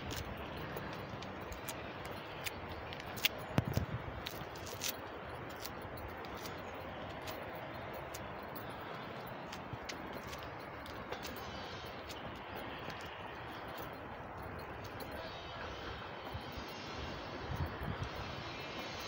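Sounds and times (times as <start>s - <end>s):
footsteps on concrete steps: 0.0s - 19.0s.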